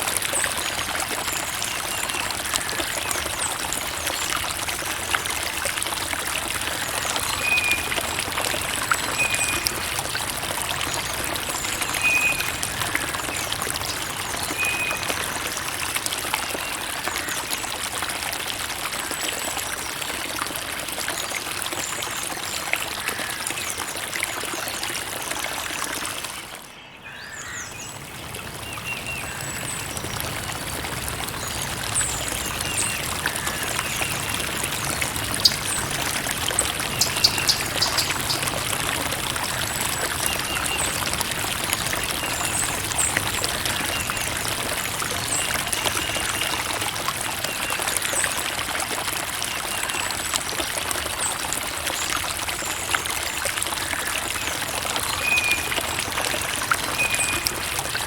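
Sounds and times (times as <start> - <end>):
creek water trickling and splashing: 0.0 - 58.0.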